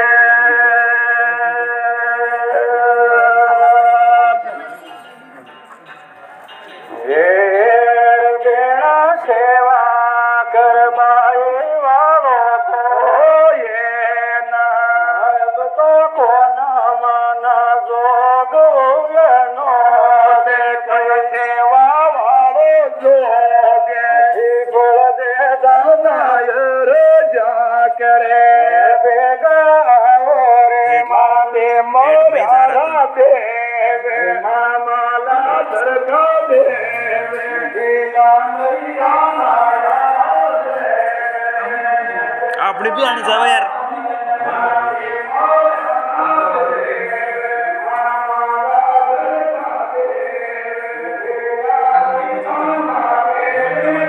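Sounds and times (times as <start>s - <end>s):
man singing folk song: 0.0s - 4.6s, 6.9s - 54.0s.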